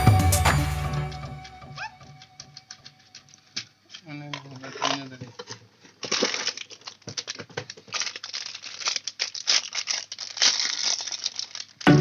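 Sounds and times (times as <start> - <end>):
packaging crinkling: 2.0 - 11.9.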